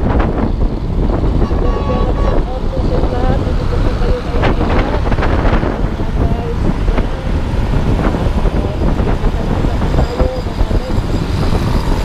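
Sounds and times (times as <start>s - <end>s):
motorcycle engine: 0.0s - 12.0s
wind on microphone: 0.0s - 12.0s.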